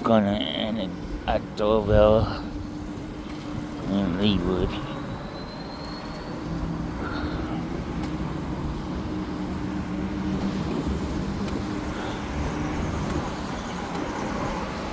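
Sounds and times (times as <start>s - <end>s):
traffic engine hum: 0.0s - 14.9s
tyre noise on road: 0.0s - 14.9s.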